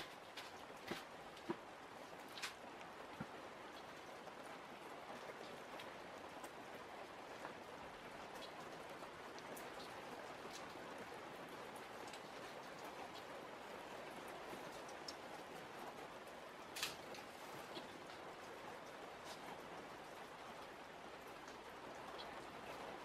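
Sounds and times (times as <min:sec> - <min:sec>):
faint steady rain: 0:00.0 - 0:23.0.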